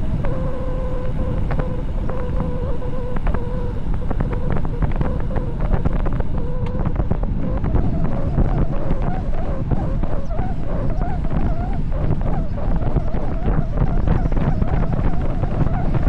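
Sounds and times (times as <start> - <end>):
wavering hum: 0.0 - 16.0
wind buffeting microphone: 0.0 - 16.0.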